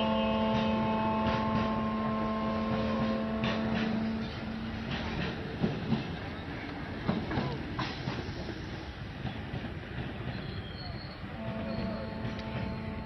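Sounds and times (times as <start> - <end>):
train wheels clattering: 0.0 - 13.0.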